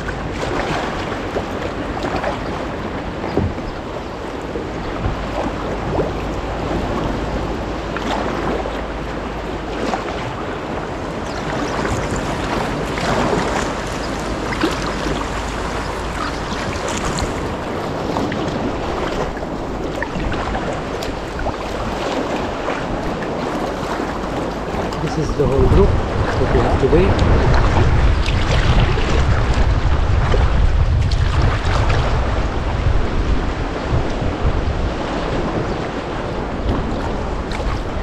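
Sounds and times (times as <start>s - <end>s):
paddle splashes: 0.0s - 38.0s
water sloshing around a kayak: 0.0s - 38.0s
wind rumbling on microphone: 0.0s - 38.0s.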